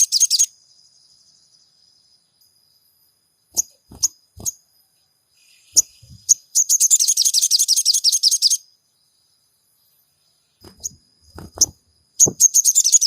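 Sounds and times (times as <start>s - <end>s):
songbird chips and trill: 0.0s - 2.7s, 3.4s - 13.0s.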